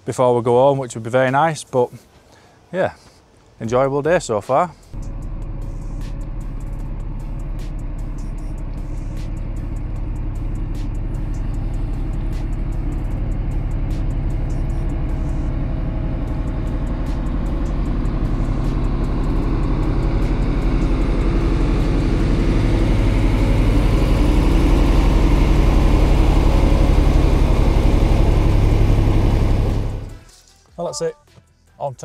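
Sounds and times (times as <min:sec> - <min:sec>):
engine humming: 0:04.2 - 0:30.3.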